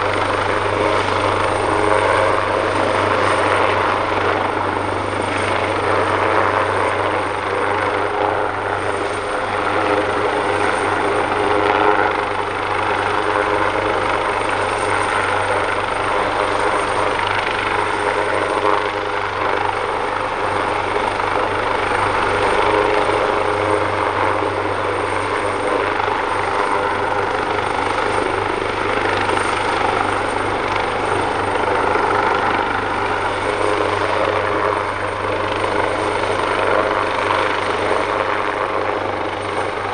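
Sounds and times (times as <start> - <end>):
helicopter running: 0.0 - 39.9
high turbine whine: 0.0 - 39.9.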